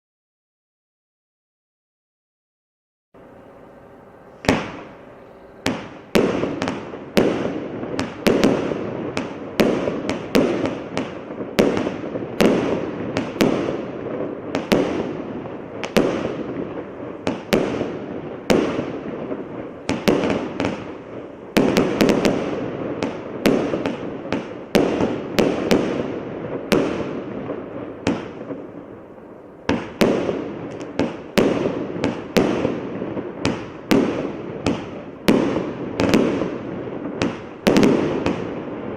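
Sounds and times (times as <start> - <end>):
firework cake firing: 3.7 - 38.9.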